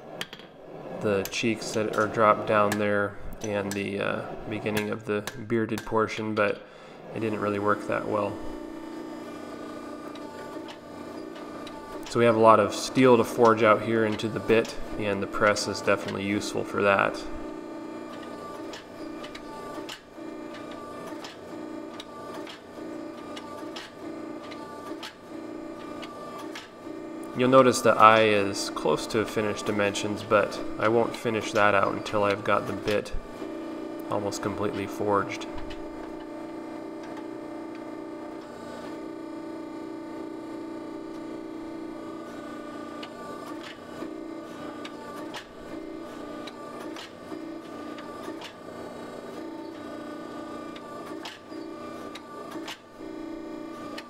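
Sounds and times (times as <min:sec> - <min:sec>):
hydraulic press humming: 0:00.0 - 0:54.0
press ram cycling: 0:00.0 - 0:54.0.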